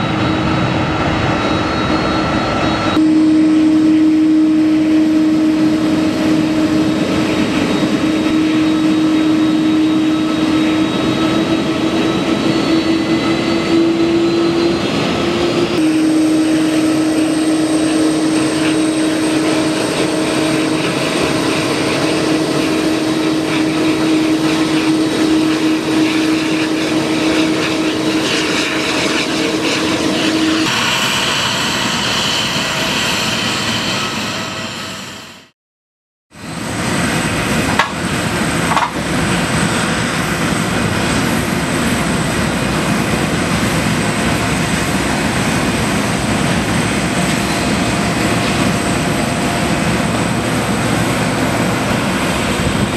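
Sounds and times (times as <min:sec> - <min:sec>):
jet engines taxiing: 0:00.0 - 0:35.5, 0:36.4 - 0:52.9.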